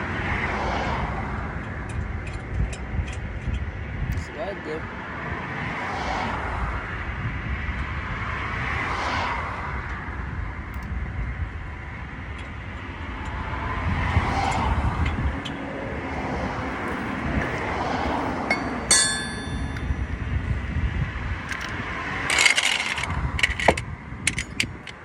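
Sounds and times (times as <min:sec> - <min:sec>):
cars passing: 0:00.0 - 0:25.0
steady low traffic rumble: 0:00.0 - 0:25.0.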